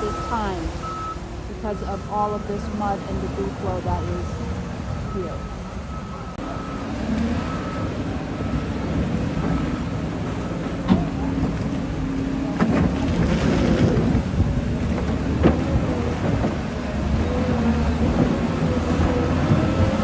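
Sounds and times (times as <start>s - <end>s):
loader engine running: 0.0s - 20.0s
rain: 0.0s - 20.0s
rushing water: 0.0s - 20.0s.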